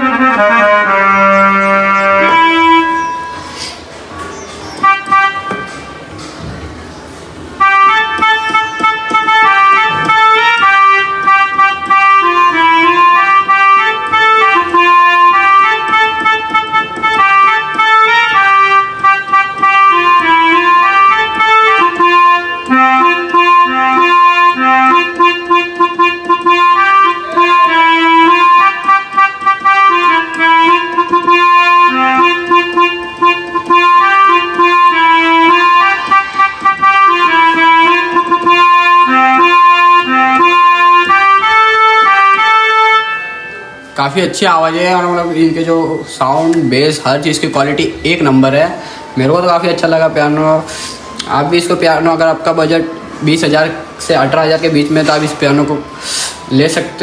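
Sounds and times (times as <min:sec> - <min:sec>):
keyboard harmonium melody: 0:00.0 - 0:57.0.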